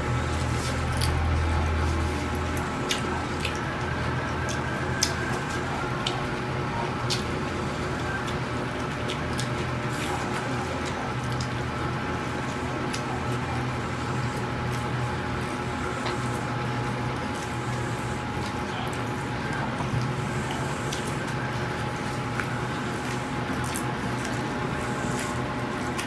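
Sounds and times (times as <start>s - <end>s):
steady low hum: 0.0s - 26.0s
person chewing wetly: 0.1s - 26.0s.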